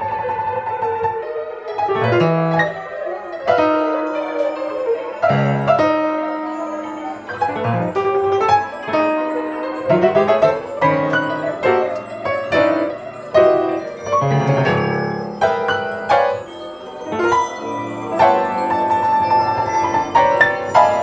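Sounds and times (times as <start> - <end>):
grand piano notes and chords: 0.0 - 21.0.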